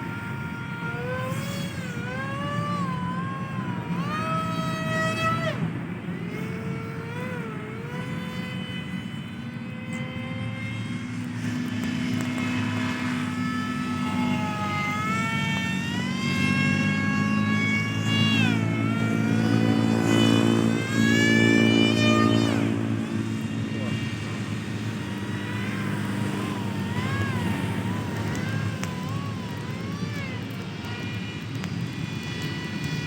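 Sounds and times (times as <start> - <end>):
model plane motor whine: 0.0 - 33.0.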